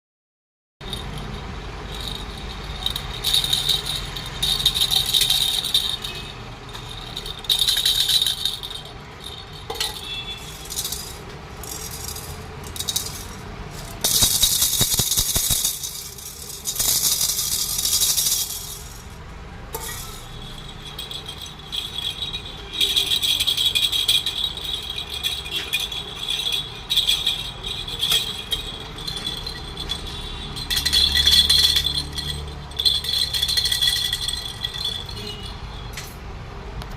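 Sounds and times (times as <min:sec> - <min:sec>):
rattles shaken: 0:00.8 - 0:36.2.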